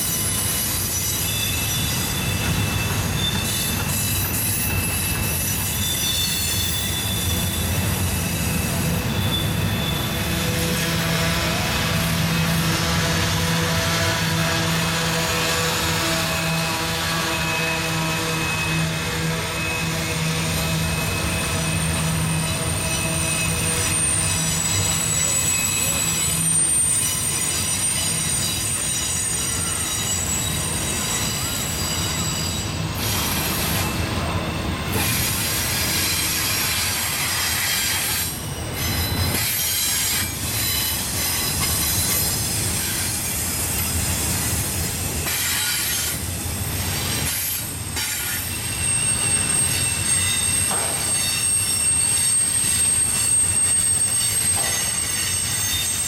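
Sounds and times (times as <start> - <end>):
train wheels rumbling and clattering: 0.0 - 56.0
wheel flanges squealing: 0.0 - 56.0.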